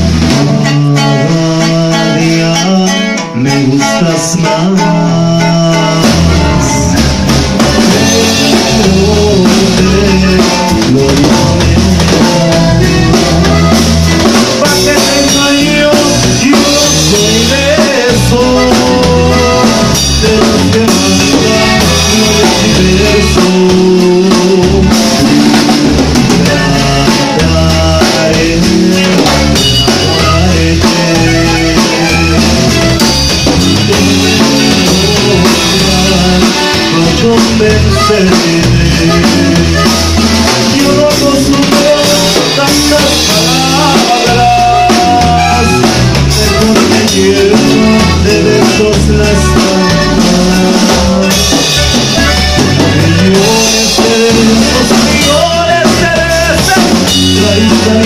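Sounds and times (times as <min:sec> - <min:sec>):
drum kit: 0:00.0 - 0:58.0
electric bass guitar: 0:00.0 - 0:58.0.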